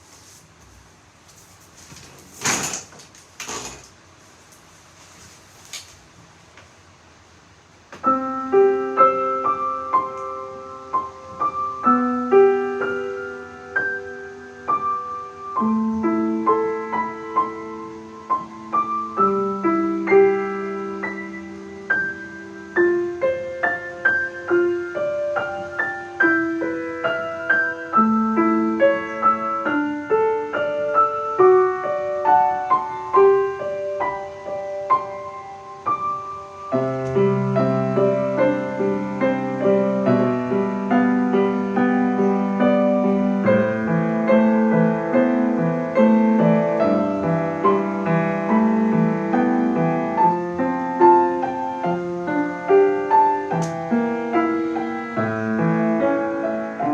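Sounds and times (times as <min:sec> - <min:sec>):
solo piano melody: 0:06.3 - 0:56.9.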